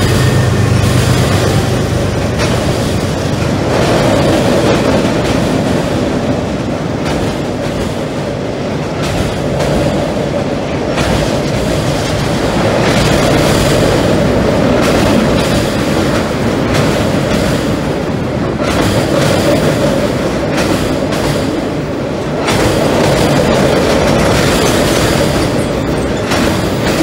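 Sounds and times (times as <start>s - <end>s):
freight train rumbling over steel bridge: 0.0s - 27.0s.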